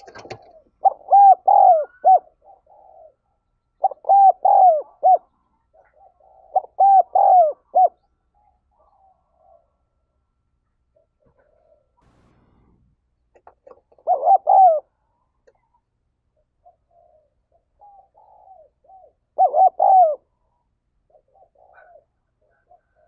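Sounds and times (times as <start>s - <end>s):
dove cooing: 0.0s - 10.0s, 10.9s - 12.7s, 13.4s - 23.0s.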